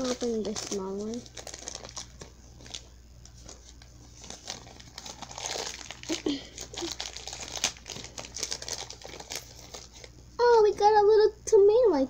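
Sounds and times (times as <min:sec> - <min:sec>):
wrapper crinkling and tearing: 0:00.0 - 0:10.1.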